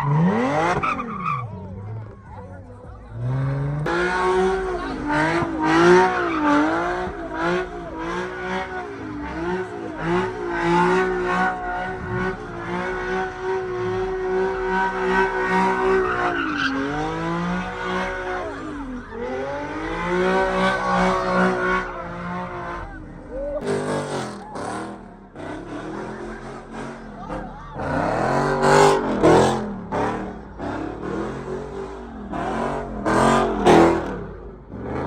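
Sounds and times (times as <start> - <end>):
tires squealing on pavement: 0.0 - 2.1, 3.2 - 35.0
car engine at high revs: 0.0 - 35.0.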